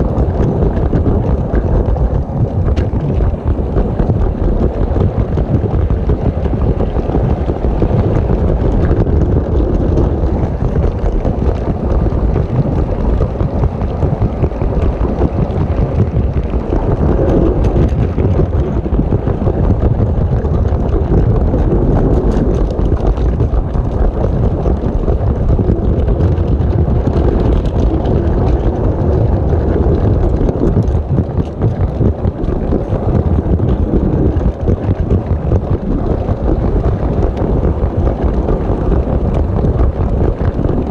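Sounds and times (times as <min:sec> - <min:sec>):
toy train rumbling on plastic track: 0:00.0 - 0:40.9.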